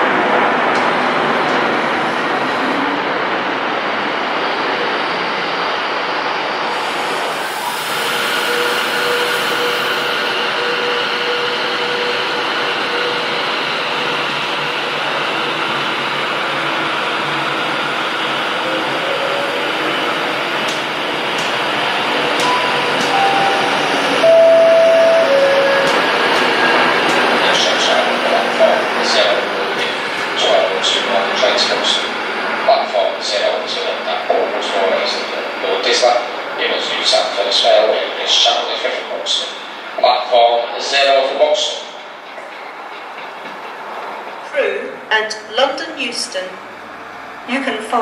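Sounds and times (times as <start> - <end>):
train wheels rumbling: 6.7 - 48.0.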